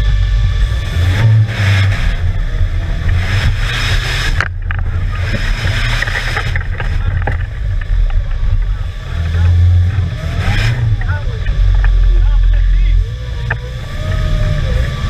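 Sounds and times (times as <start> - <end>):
vehicle churning through mud: 0.0 - 15.0
vehicle engine running hard: 0.0 - 15.0.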